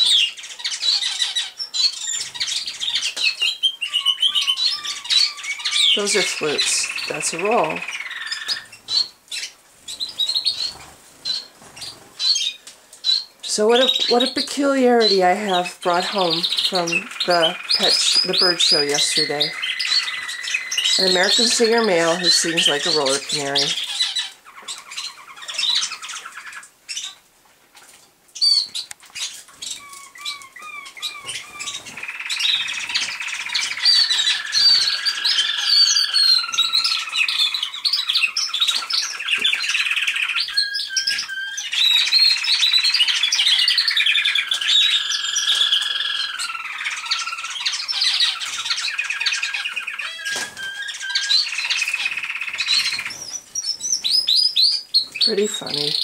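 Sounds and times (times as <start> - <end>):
canary singing: 0.0 - 27.2, 28.4 - 56.0.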